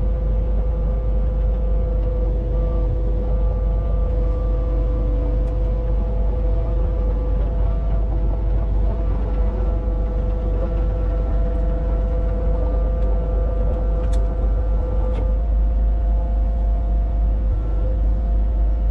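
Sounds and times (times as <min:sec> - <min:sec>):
excavator diesel engine rumbling: 0:00.0 - 0:18.9
steady engine whine: 0:00.0 - 0:18.9.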